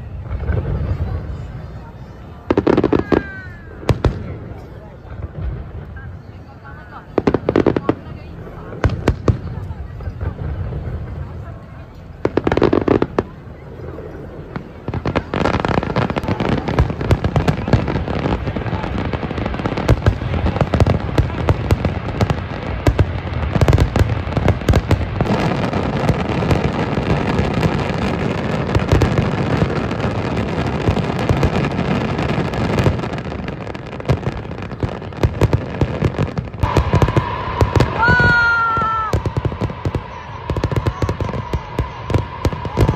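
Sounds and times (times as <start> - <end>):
fireworks cracks and bangs: 0.0 - 42.9.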